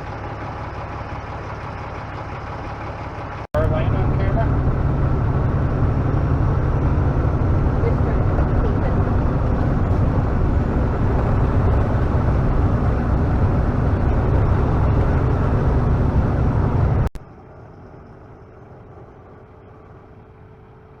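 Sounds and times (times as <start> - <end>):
farm machinery rumbling: 0.0 - 21.0.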